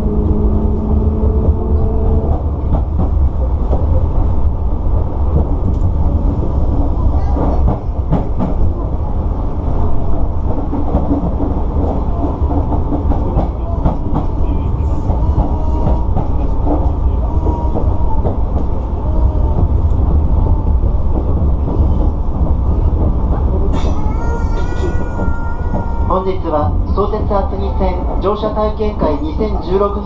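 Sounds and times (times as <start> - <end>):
train rumble from inside: 0.0 - 30.0
wheels clacking on track: 0.0 - 30.0.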